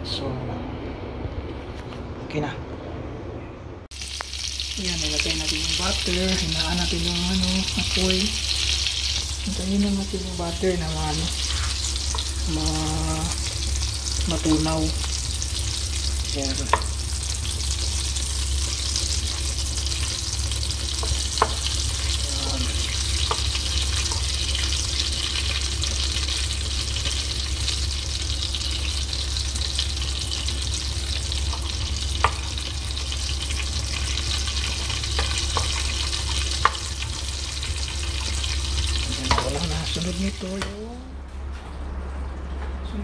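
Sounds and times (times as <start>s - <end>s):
butter sizzling in a wok: 3.9s - 40.7s.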